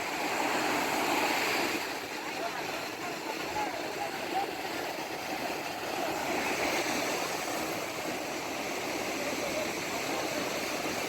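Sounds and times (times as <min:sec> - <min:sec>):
rough sea water rushing: 0:00.0 - 0:11.0.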